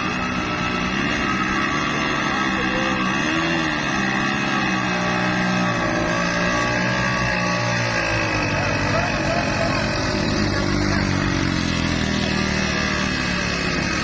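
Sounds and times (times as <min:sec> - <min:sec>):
vehicle engine running loud: 0:00.0 - 0:14.0.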